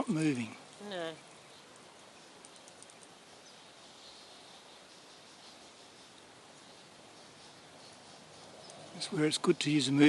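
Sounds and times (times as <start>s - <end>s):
distant bird chirps: 0.0s - 10.0s
faint outdoor hiss: 0.0s - 10.0s.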